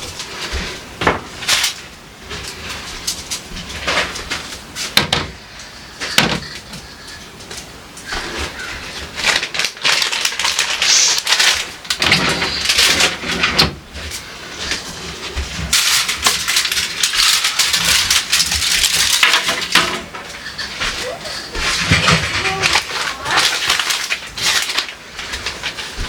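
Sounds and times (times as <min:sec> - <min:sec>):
rustling and scraping of containers: 0:00.0 - 0:26.0.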